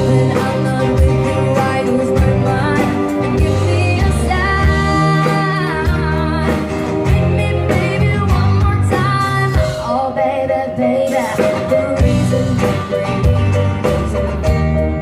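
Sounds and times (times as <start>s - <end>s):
drum beats: 0.0s - 10.0s, 11.1s - 15.0s
bass: 0.0s - 15.0s.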